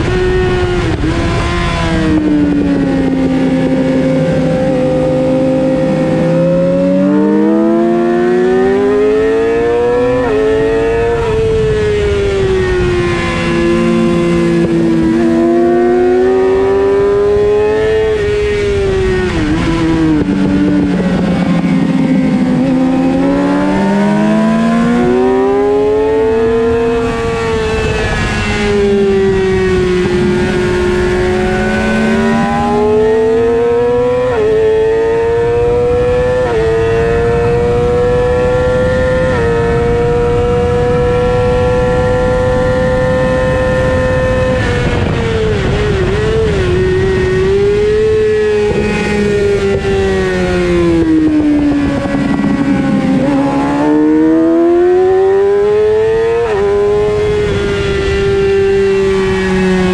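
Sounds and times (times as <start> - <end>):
wind rushing: 0.0 - 34.8, 36.6 - 59.9
motorcycle engine at high revs: 0.0 - 59.9.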